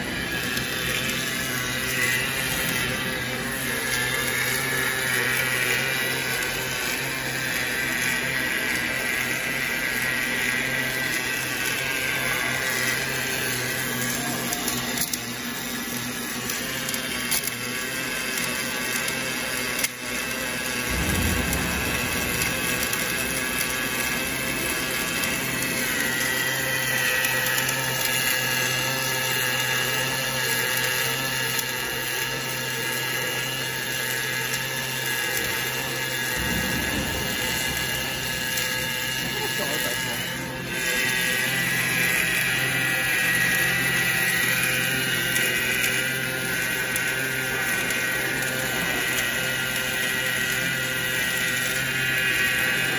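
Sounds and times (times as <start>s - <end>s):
machine hum: 0.0s - 32.3s, 34.4s - 52.9s
welding arc: 0.0s - 52.9s.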